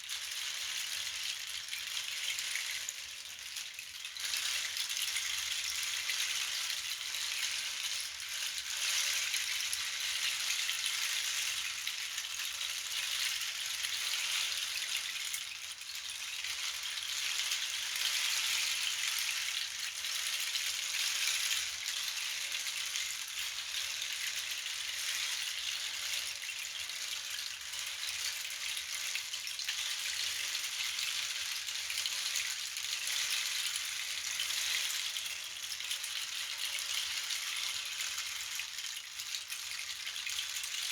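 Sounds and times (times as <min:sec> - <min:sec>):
shaker rattling: 0:00.0 - 0:40.9.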